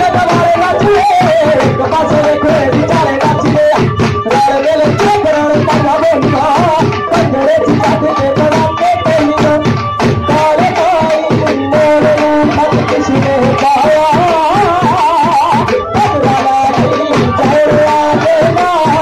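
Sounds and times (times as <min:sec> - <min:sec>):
dhol drum rhythm: 0:00.0 - 0:19.0.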